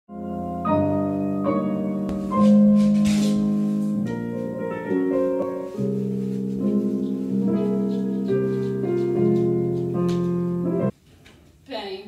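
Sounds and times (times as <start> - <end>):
piano playing slow chords: 0.1 - 10.9.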